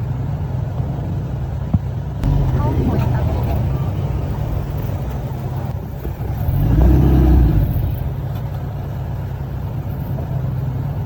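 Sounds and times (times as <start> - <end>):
diesel engine running and revving: 0.0 - 11.0.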